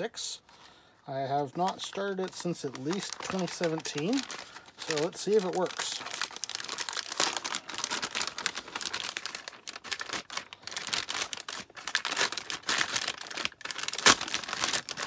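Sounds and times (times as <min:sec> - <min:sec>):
plastic bag crinkling: 0:01.4 - 0:15.0.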